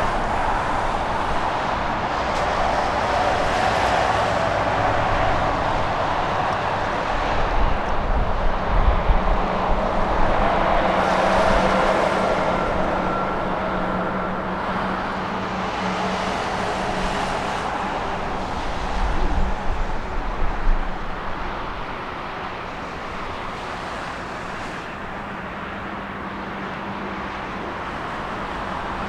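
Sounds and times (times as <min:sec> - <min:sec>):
wind buffeting microphone: 0:00.0 - 0:26.1
jet airliner passing: 0:00.0 - 0:29.0.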